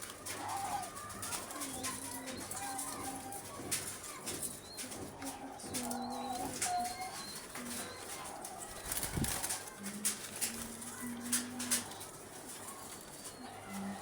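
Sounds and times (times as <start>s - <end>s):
doves cooing: 0.0s - 14.0s
wing flaps and rustling: 0.0s - 14.0s.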